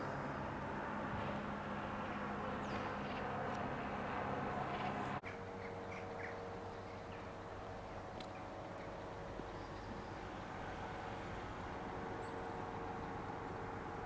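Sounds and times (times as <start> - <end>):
low drone: 0.0 - 14.0.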